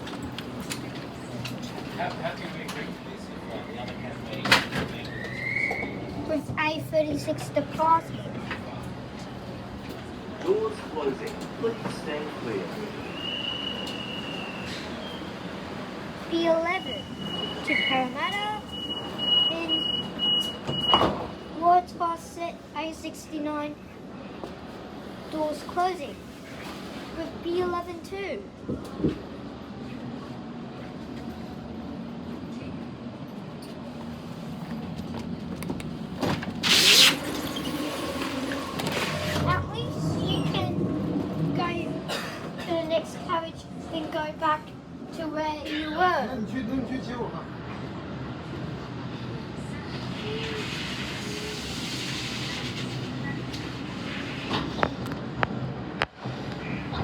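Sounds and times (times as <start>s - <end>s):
rumble of wheels on rail: 0.0s - 57.0s.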